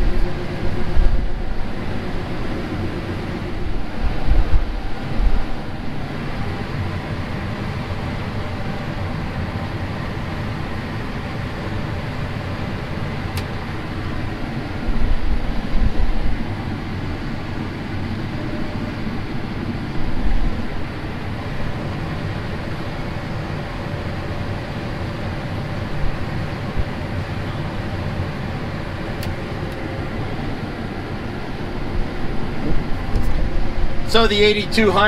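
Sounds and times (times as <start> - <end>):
combine harvester drone: 0.0 - 35.0.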